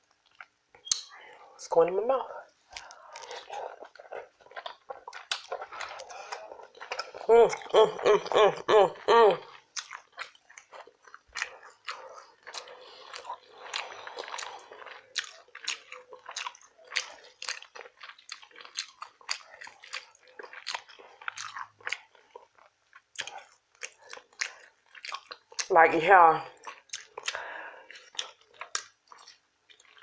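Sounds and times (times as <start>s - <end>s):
person chewing with wet smacks: 0.1s - 1.4s, 2.7s - 25.7s, 26.5s - 30.0s.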